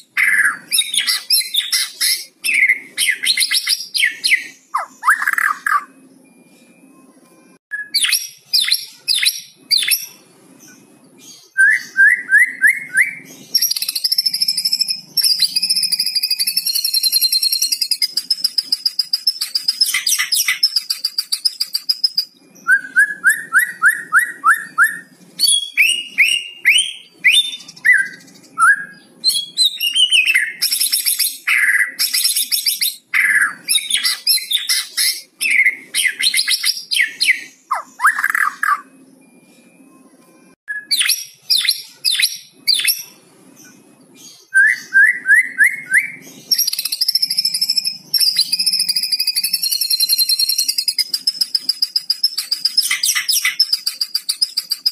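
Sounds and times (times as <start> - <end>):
bird whistles and chirps: 0.2 - 6.8, 11.2 - 39.6, 40.7 - 54.9.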